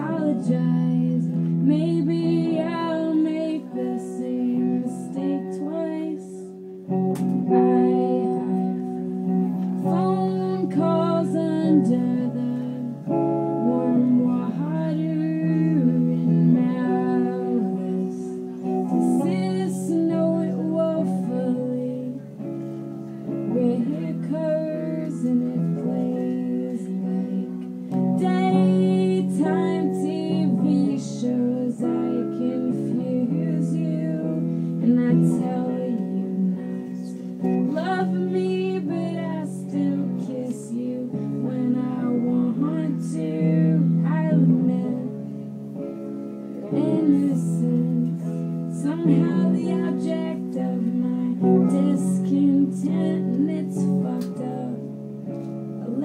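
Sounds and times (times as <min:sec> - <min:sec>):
guitar chords: 0:00.0 - 0:56.0
woman singing: 0:00.0 - 0:56.0.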